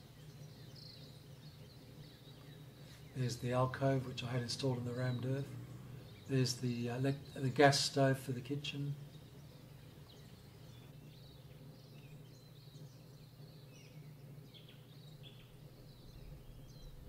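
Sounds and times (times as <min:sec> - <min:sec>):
faint bird chirps: 0:00.0 - 0:17.0
low hum: 0:00.0 - 0:17.0.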